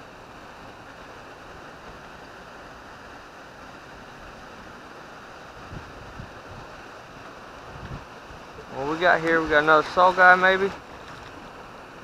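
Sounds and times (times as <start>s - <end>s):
water rushing from dam outlet: 0.0s - 12.0s.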